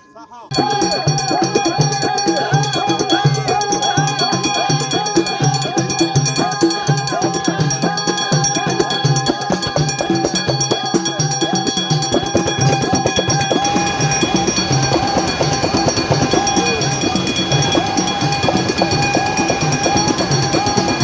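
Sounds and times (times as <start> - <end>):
sliding pitch melody: 0.5 - 21.0
steady drum beat: 0.5 - 21.0.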